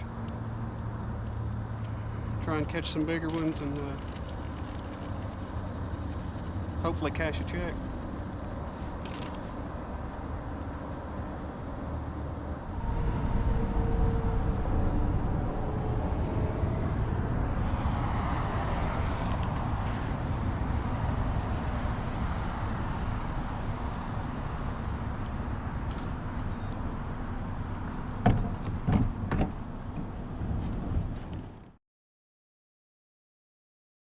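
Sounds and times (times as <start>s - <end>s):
low rumbling noise: 0.0s - 31.6s.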